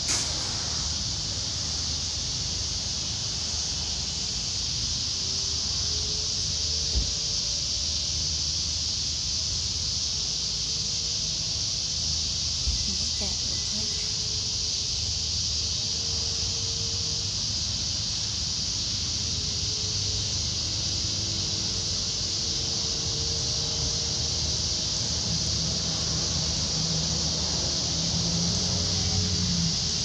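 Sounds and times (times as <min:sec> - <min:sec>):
cicadas singing: 0:00.0 - 0:30.0.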